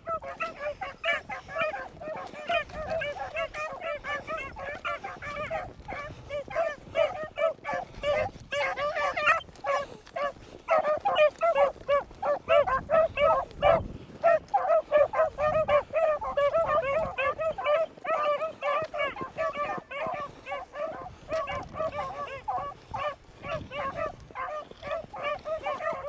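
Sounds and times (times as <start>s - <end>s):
dogs baying and yelping: 0.0s - 26.0s.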